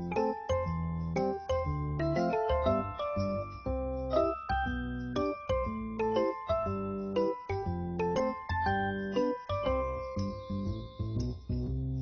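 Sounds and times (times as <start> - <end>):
light melody over bass notes: 0.0 - 12.0.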